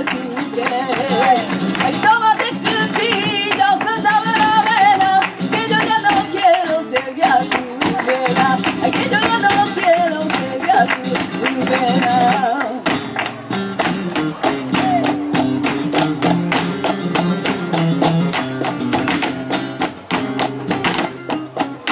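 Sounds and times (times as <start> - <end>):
dancers' footwork striking stage: 0.0 - 21.9
flamenco guitar: 0.0 - 21.9
sharp hand-clapping: 0.0 - 21.9.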